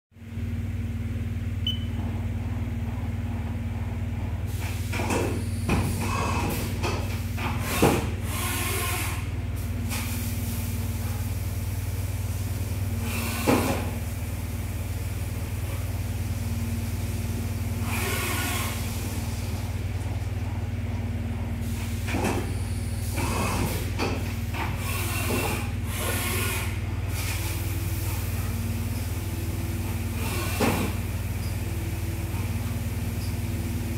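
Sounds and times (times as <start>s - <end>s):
machine low hum: 0.2s - 33.9s.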